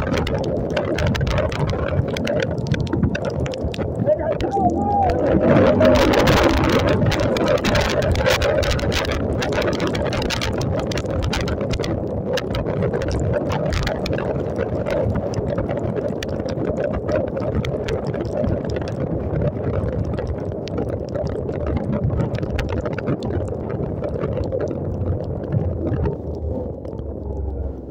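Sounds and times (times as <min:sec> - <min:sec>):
tyres on wet road: 0:00.0 - 0:27.9
wind rushing over microphone: 0:00.0 - 0:27.9.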